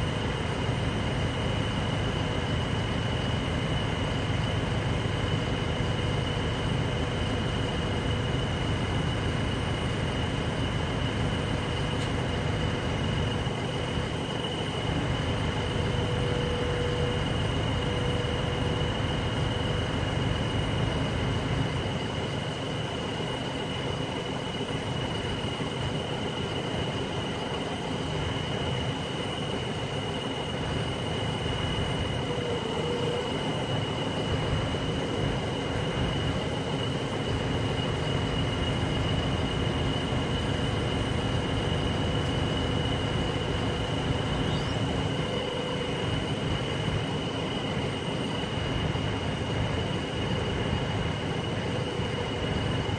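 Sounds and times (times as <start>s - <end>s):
crane engine running: 0.0s - 52.9s
steady high whine: 0.0s - 52.9s.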